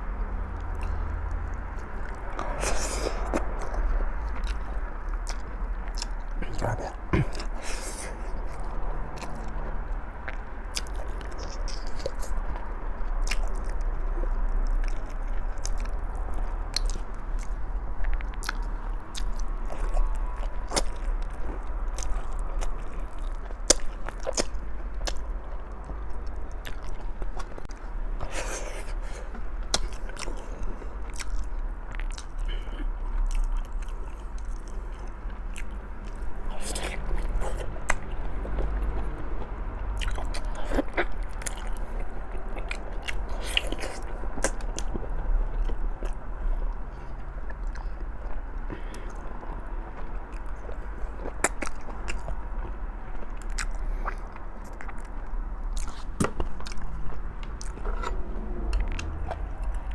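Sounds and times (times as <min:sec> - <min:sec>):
faint low steady hum: 0:00.0 - 0:59.9
person chewing and biting: 0:00.6 - 0:39.2, 0:40.0 - 0:49.4, 0:50.0 - 0:59.9.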